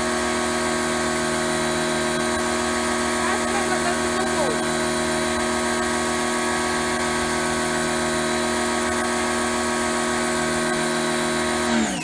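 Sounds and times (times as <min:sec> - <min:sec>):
pressure washer humming: 0:00.0 - 0:12.0.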